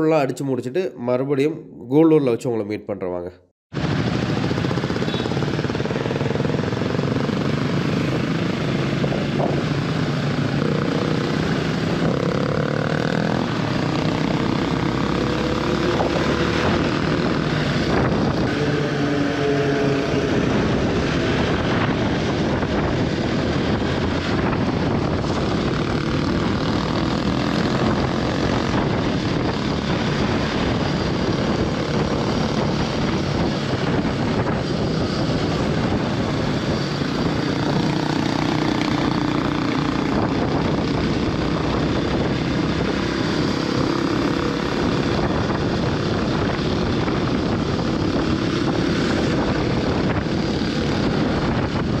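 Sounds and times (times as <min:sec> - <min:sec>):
wind rushing on microphone: 0:03.7 - 0:52.0
motorcycle engine running: 0:03.8 - 0:52.0.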